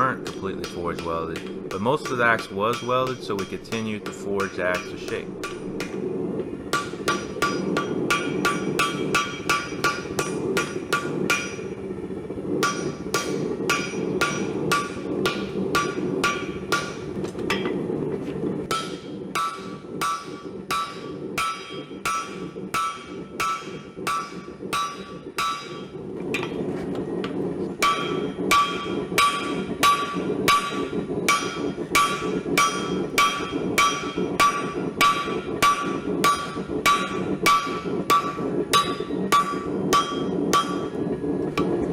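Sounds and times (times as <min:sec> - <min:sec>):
hammer striking steel on anvil: 0:00.0 - 0:06.0, 0:06.7 - 0:11.8, 0:12.6 - 0:17.8, 0:18.7 - 0:41.8.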